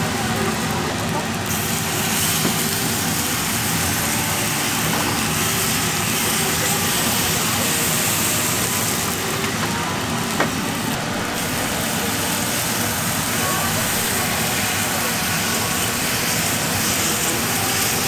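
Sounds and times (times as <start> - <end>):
batter sizzling on hot plate: 0.0 - 18.0.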